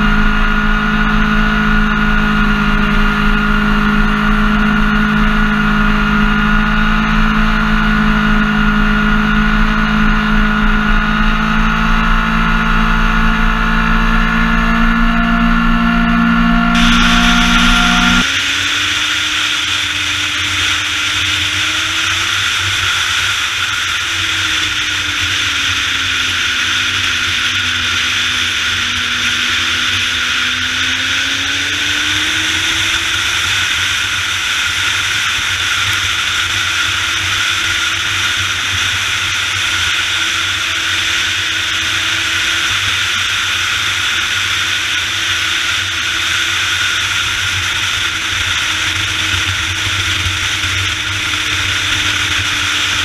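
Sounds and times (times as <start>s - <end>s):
motorcycle engine: 0.0s - 53.0s.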